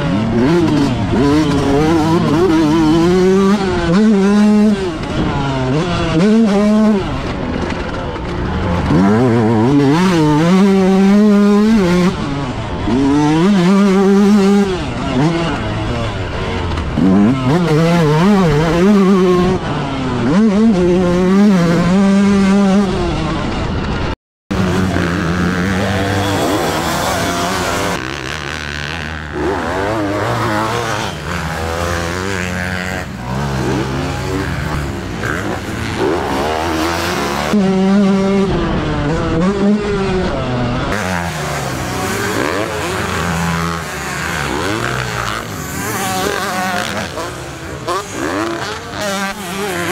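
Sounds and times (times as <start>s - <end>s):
dirt bike engine revving: 0.0s - 49.9s
motocross bikes running: 0.0s - 49.9s.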